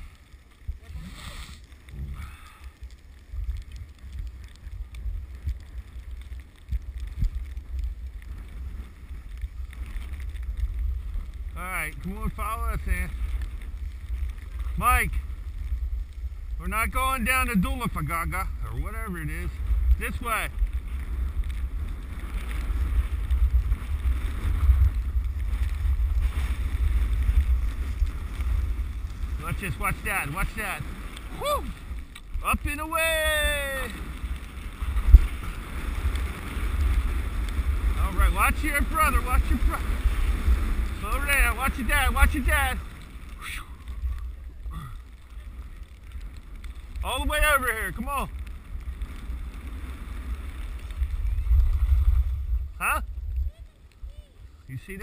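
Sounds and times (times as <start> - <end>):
skis sliding on snow: 0.0 - 55.0
wind rumbling on microphone: 0.0 - 55.0.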